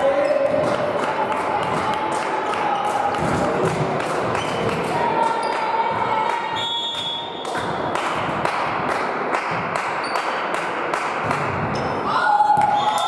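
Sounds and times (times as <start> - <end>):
rhythmic beating in a hall: 0.0 - 12.7.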